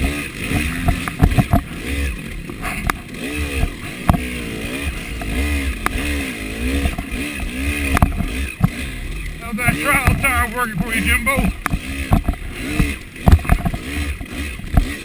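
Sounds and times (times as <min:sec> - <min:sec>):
bike knocking over bumps: 0:00.0 - 0:06.1, 0:06.7 - 0:08.9, 0:09.5 - 0:15.0
dirt bike engine revving: 0:00.0 - 0:15.0.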